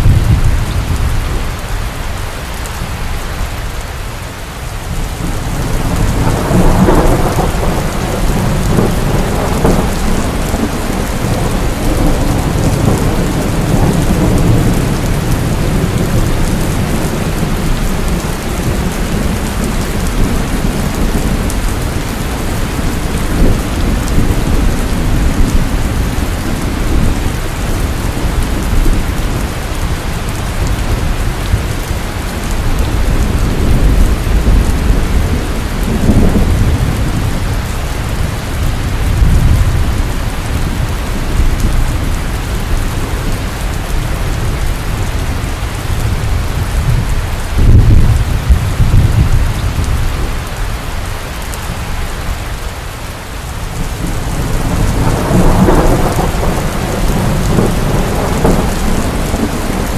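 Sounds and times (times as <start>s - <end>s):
rolling thunder: 0.0s - 1.6s, 4.9s - 50.5s, 53.6s - 59.9s
heavy rain: 0.0s - 59.9s.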